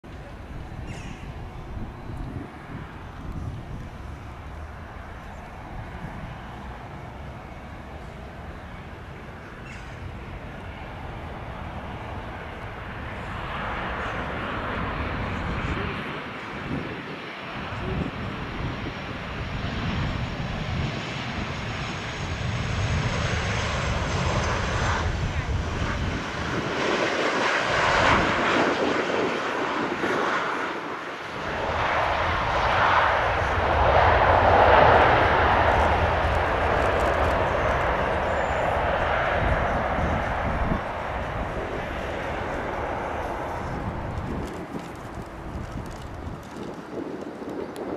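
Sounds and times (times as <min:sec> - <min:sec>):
jet engines rumbling: 0:00.1 - 0:47.9.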